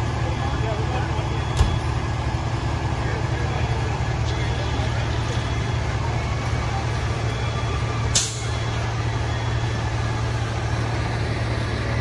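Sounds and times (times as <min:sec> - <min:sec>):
fire engine engine droning: 0:00.0 - 0:12.0.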